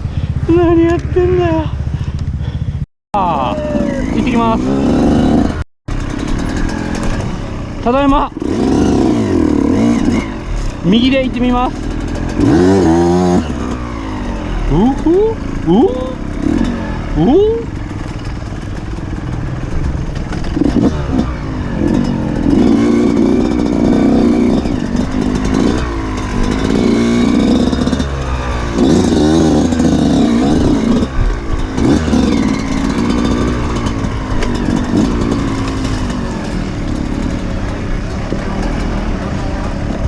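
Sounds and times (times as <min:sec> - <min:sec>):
off-road motorcycle engine revving: 0:00.0 - 0:40.0.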